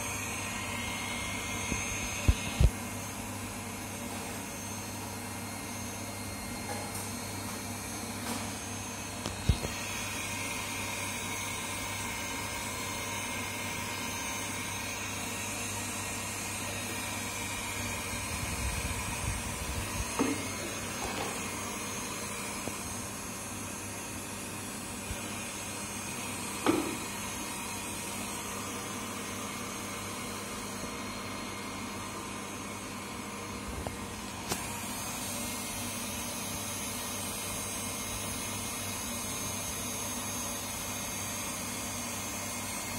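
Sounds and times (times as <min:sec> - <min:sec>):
electric motor humming: 0:00.0 - 0:42.9.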